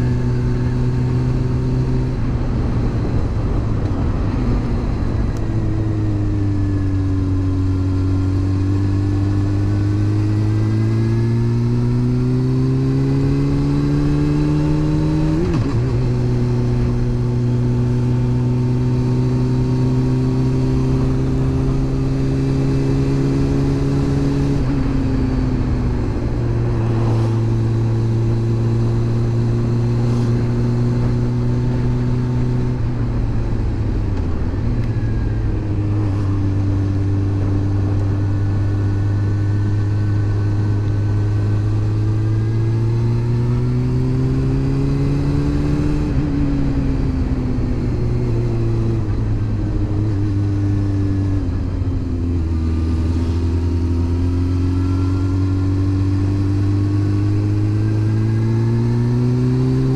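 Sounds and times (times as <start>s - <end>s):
wind noise: 0.0s - 53.2s
motorcycle engine: 0.0s - 59.9s.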